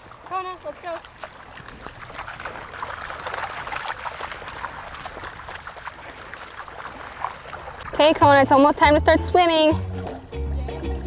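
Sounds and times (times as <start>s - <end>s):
footsteps splashing in shallow water: 0.0s - 10.3s.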